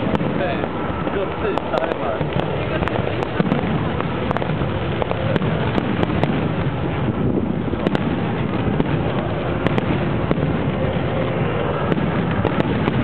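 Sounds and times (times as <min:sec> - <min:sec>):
fireworks crackling rumble: 0:00.0 - 0:13.0
fireworks sharp bangs: 0:00.0 - 0:13.0.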